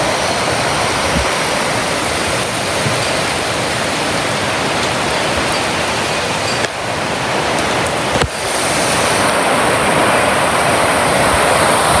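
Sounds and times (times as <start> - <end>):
heavy rain downpour: 0.0 - 12.0
strong wind gusts: 0.0 - 12.0.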